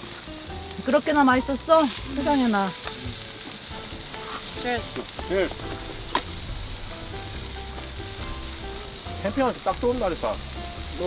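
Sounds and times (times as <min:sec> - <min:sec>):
food sizzling on a grill: 0:00.0 - 0:11.0
soft background music: 0:00.0 - 0:11.0.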